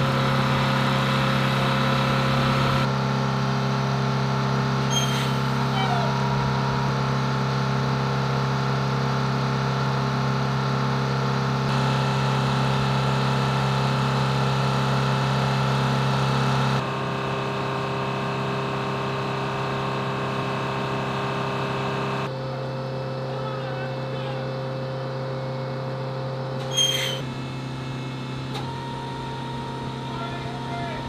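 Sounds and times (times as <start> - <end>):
engine idling with whining tones: 0.0 - 31.0.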